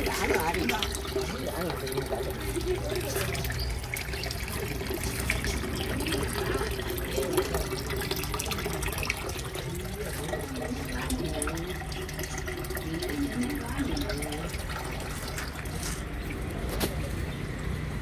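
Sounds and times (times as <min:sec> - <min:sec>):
water pouring from a hose: 0:00.0 - 0:17.7.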